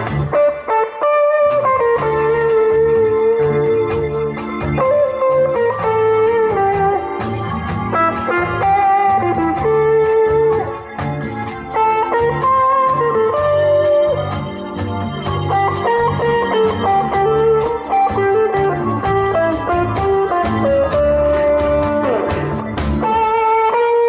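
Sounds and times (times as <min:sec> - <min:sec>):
drum kit cymbal beat: 0:00.0 - 0:00.7, 0:01.5 - 0:23.9
bass guitar: 0:00.0 - 0:24.0
electric guitar: 0:00.0 - 0:24.0
held keyboard notes: 0:00.0 - 0:24.0.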